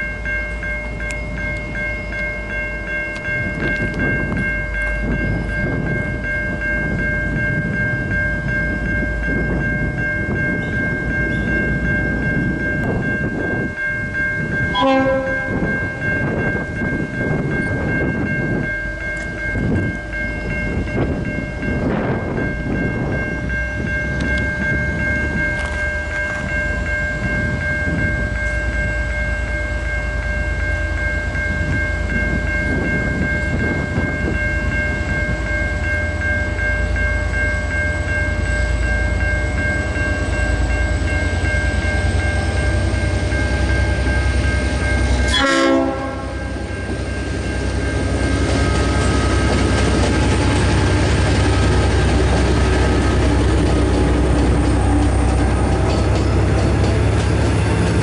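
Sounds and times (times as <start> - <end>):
steady high tones: 0.0 - 58.0.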